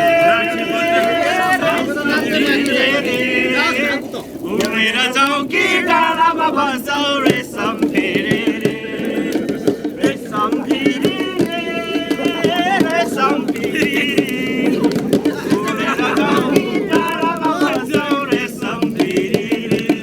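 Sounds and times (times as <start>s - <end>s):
people singing: 0.0s - 20.0s
rhythmic beat of sharp strikes: 0.0s - 20.0s.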